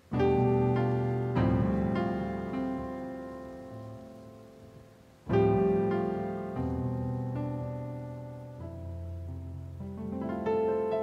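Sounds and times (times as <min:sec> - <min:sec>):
slow solo piano piece: 0:00.0 - 0:11.0.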